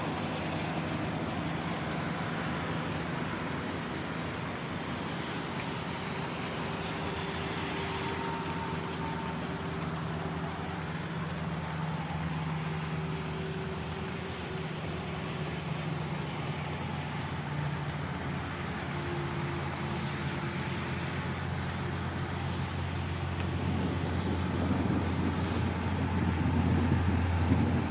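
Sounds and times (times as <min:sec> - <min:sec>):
rain hissing: 0:00.0 - 0:27.9
vehicle engine humming: 0:00.0 - 0:27.9
wet road noise: 0:00.0 - 0:27.9.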